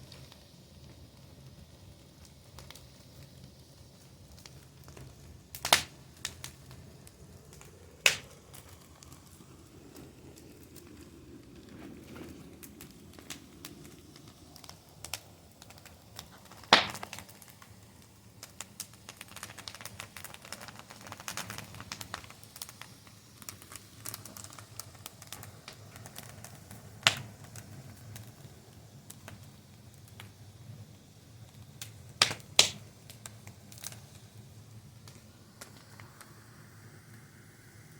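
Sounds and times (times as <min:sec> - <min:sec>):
loud pops of fire: 0:00.0 - 0:36.3
low rumble of burning: 0:00.0 - 0:37.9
wood fire crackling: 0:00.0 - 0:37.9.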